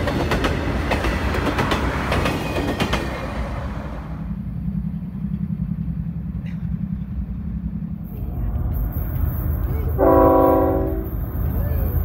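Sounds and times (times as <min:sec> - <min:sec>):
diesel freight train approaching: 0:00.0 - 0:12.0
train wheels rumbling on track: 0:00.0 - 0:12.0.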